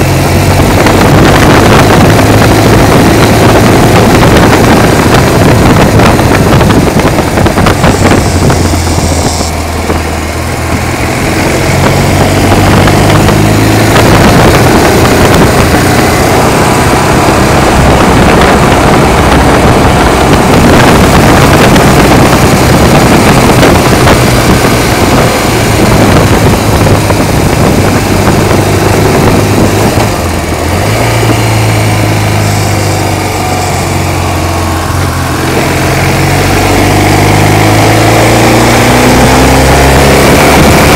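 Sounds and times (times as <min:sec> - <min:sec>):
motorcycle engine running: 0:00.0 - 0:40.9
wind rush on microphone: 0:00.0 - 0:40.9.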